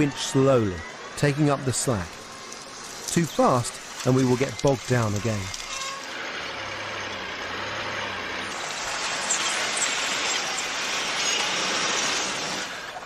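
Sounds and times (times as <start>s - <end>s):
vehicle engine and winch running: 0.0s - 13.0s.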